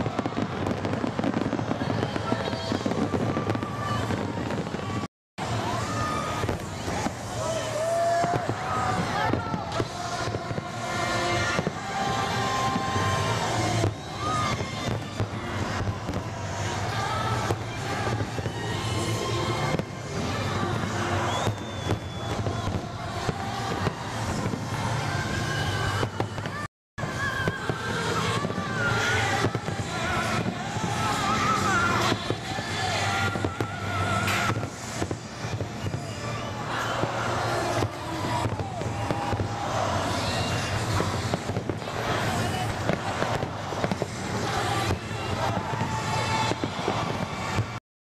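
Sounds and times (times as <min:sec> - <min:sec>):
fireworks bangs and crackles: 0:00.0 - 0:47.8
fireworks whistling: 0:00.0 - 0:47.8.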